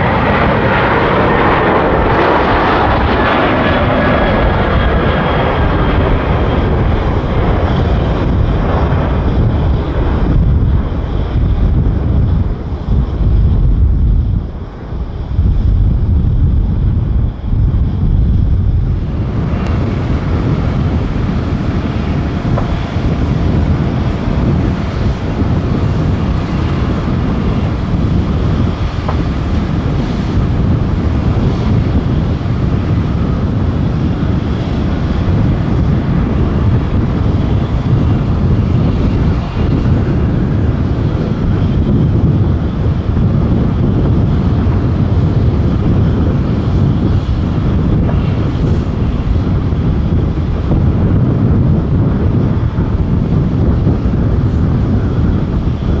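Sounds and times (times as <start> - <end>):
jet engines rumbling: 0.0 - 56.0
wind buffeting microphone: 0.0 - 56.0.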